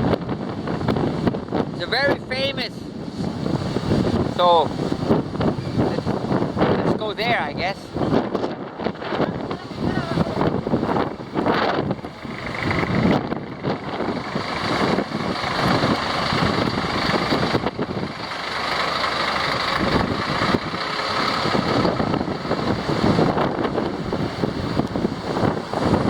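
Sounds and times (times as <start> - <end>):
street traffic rushing: 0.0 - 26.0
wind buffeting microphone: 0.0 - 26.0.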